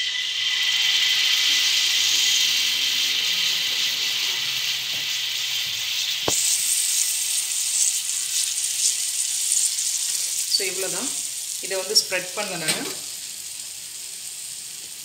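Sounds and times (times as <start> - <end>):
ghee sizzling on griddle: 0.0 - 15.0.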